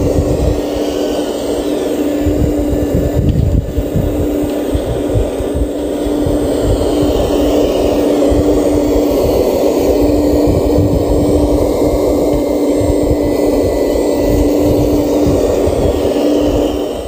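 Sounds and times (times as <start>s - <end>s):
model excavator machine drone: 0.0s - 17.0s.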